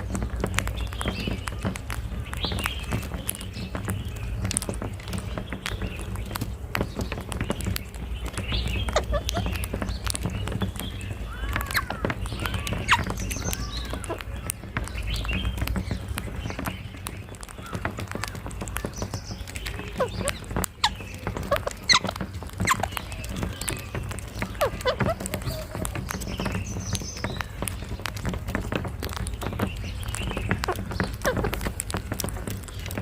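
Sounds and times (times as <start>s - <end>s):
parakeets squawking: 0.0s - 33.0s.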